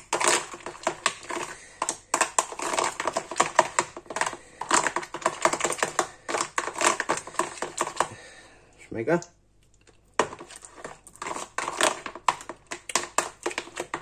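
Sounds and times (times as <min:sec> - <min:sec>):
metal spoon stirring in plastic bowl: 0:00.0 - 0:08.3, 0:10.1 - 0:14.0.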